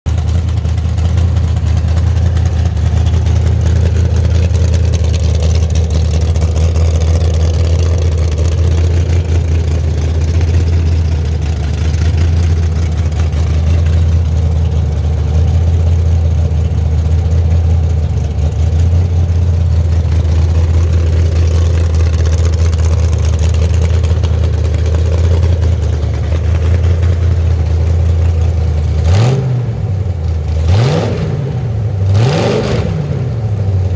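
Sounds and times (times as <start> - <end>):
car engine idling: 0.1 - 33.9
engine revving: 0.1 - 33.9.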